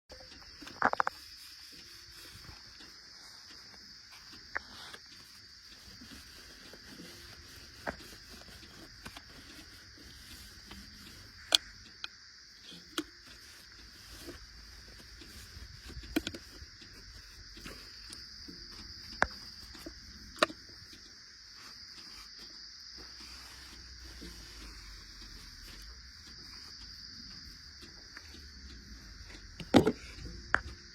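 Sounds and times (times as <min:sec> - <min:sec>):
high-pitched insect chorus: 0:00.1 - 0:30.9
sharp clicks: 0:00.1 - 0:30.9.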